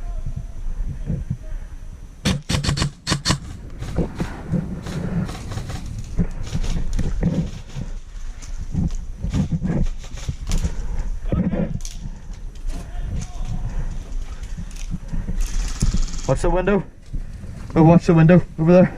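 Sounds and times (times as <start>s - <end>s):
rustling: 2.7s - 18.9s.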